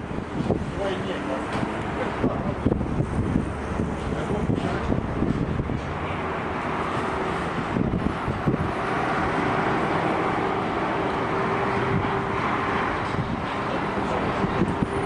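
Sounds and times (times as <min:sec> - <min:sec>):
steady engine hum: 0:00.0 - 0:15.0
street traffic: 0:00.0 - 0:15.0.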